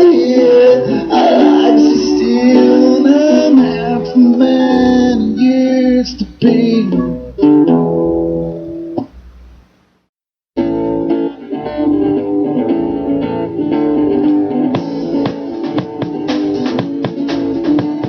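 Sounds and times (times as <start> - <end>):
guitar playing: 0.0 - 9.6, 10.6 - 18.0.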